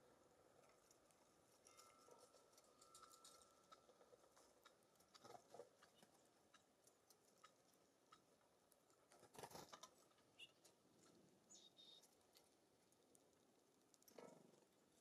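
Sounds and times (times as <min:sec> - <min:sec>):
birds pecking seed: 0:00.0 - 0:15.0.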